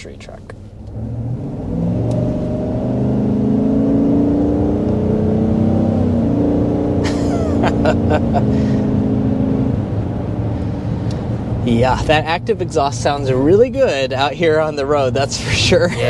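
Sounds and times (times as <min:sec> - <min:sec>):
truck engine accelerating: 0:00.0 - 0:16.0.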